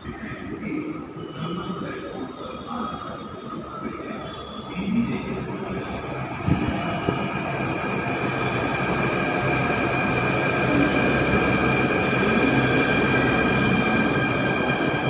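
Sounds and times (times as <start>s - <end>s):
train rumbling with whine: 0.0s - 15.0s.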